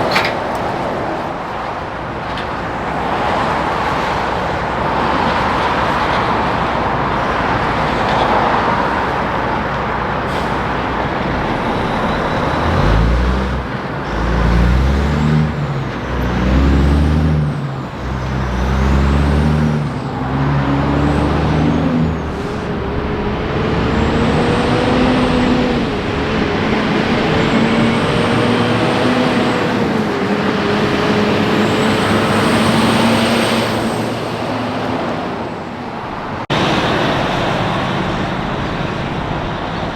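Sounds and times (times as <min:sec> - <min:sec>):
truck diesel engine accelerating: 0:03.4 - 0:35.6.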